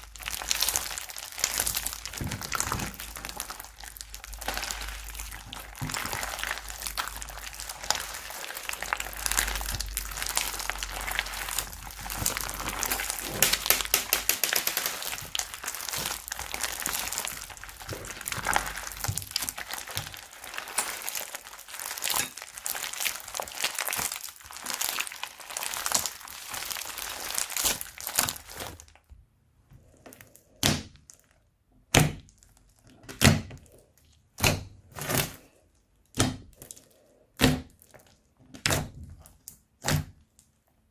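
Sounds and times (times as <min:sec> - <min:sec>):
slime crackling and crinkling: 0:00.0 - 0:29.1, 0:29.8 - 0:40.9.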